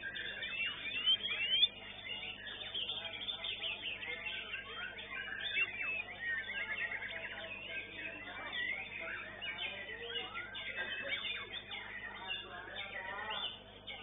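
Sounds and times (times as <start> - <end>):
songbirds whistling and trilling: 0.0 - 14.0.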